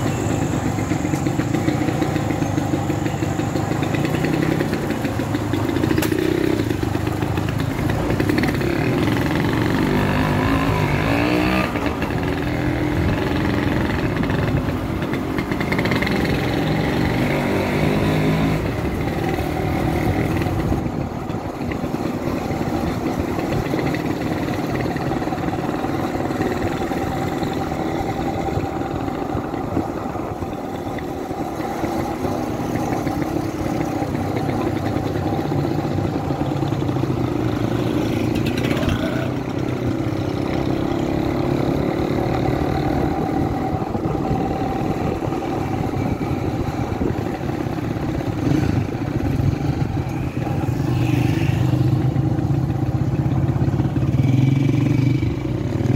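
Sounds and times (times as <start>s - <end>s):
motorcycle engine running: 0.0s - 55.9s
road noise: 0.0s - 55.9s.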